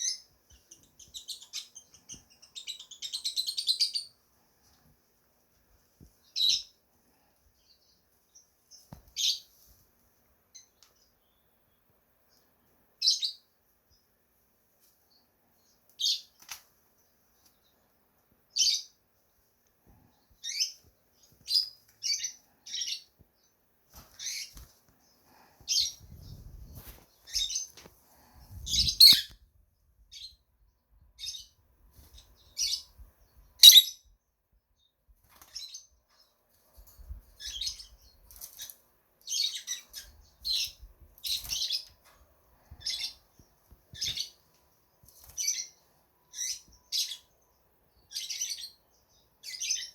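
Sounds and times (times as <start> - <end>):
lovebirds chirping: 0.0 - 14.3, 15.0 - 49.9.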